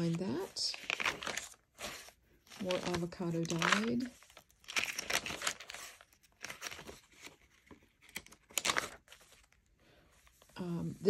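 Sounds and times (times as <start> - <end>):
paper pages rustling: 0.0 - 10.6.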